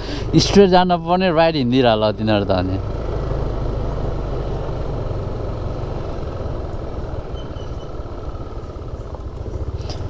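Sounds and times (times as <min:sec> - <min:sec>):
scooter engine drone: 0:00.0 - 0:10.0.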